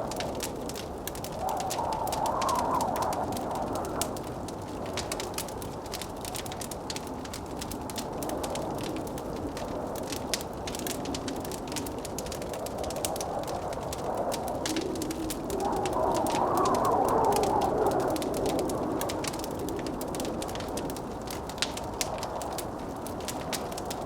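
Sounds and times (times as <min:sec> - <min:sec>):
blizzard wind rushing: 0:00.0 - 0:24.0
wood fire crackling: 0:00.0 - 0:24.0.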